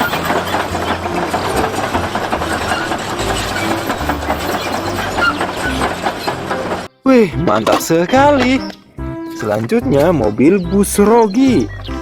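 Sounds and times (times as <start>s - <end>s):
heavy diesel engine rumble: 0.0s - 12.0s.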